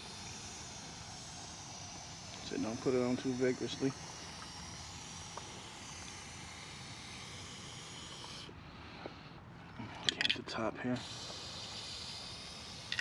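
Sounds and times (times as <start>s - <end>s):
aerosol spray hiss: 0.0s - 8.5s, 11.0s - 13.0s.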